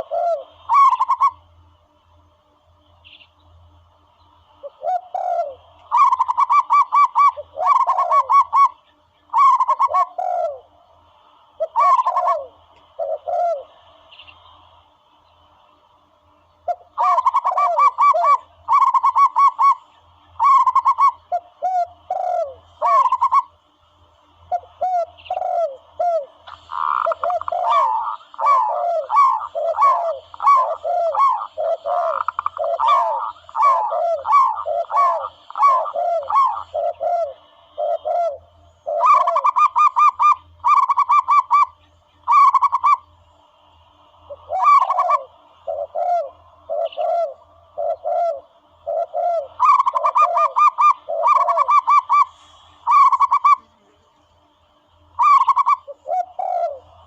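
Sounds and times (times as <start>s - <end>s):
recorded dove cooing: 0.0s - 1.6s, 4.5s - 14.7s, 16.6s - 23.7s, 24.4s - 43.2s, 44.0s - 54.0s, 55.2s - 57.0s.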